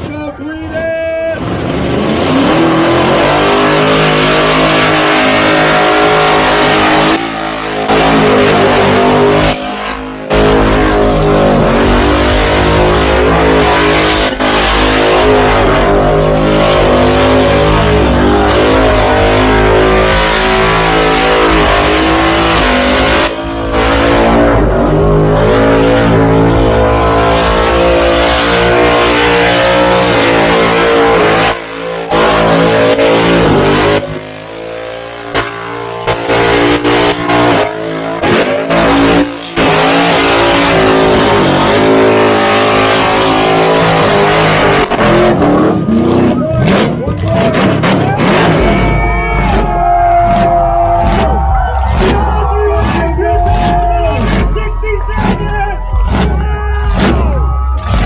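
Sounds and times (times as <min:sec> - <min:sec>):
tyres spinning in a burnout: 0:01.3 - 0:58.0
car engine at high revs: 0:01.4 - 0:58.0.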